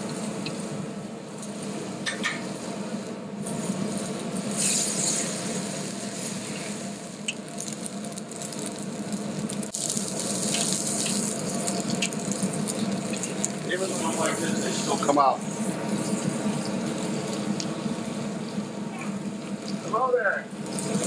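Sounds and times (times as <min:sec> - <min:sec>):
tomatoes sizzling in oil: 0:00.0 - 0:21.0.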